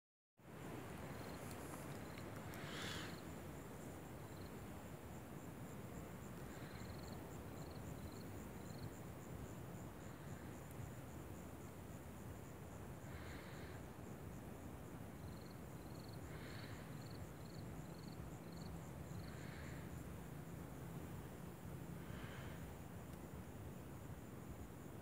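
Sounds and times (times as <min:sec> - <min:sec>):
insect stridulating: 0:00.4 - 0:25.0.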